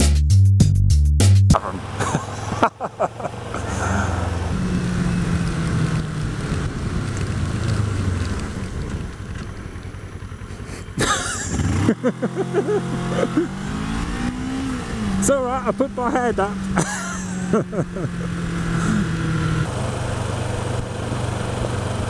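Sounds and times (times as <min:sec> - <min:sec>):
motorcycle engine running: 0:01.5 - 0:22.0
road and wind noise: 0:01.5 - 0:22.0.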